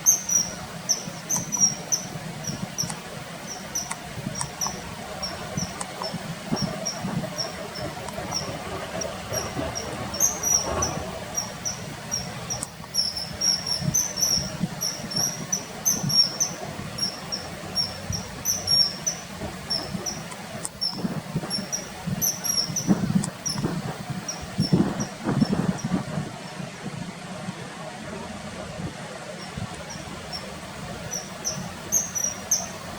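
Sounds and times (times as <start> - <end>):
kingfisher calling: 0.0 - 25.2, 29.8 - 32.9.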